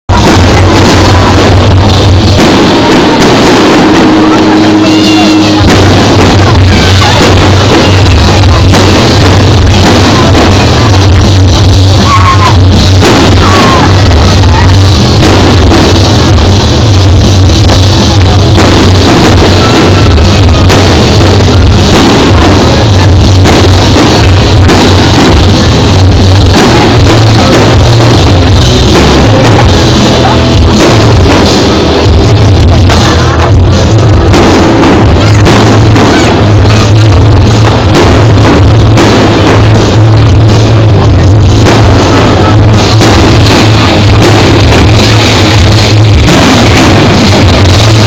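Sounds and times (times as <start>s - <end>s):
loud rock music: 0.0s - 48.0s.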